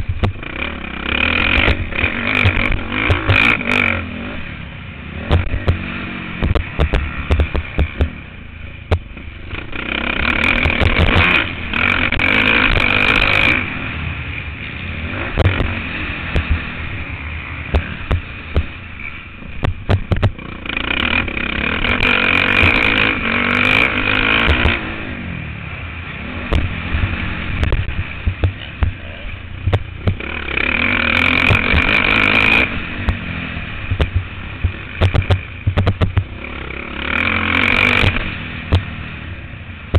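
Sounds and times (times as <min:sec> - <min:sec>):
knocks and clatters of bike: 0:00.0 - 0:04.1, 0:05.2 - 0:13.8, 0:14.4 - 0:25.0, 0:26.4 - 0:39.0
motocross bike engine revving: 0:00.0 - 0:39.9.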